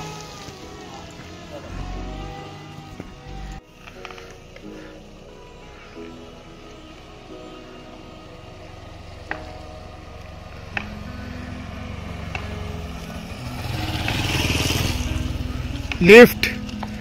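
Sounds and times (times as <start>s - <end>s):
motor vehicle engine approaching: 0.0s - 17.0s.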